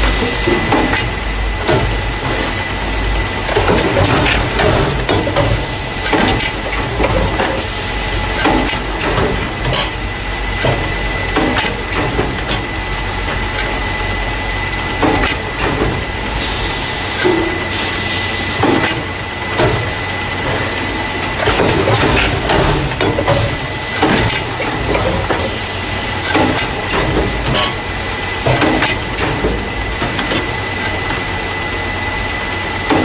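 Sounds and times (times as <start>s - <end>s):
machine hum with high tone: 0.0s - 33.0s.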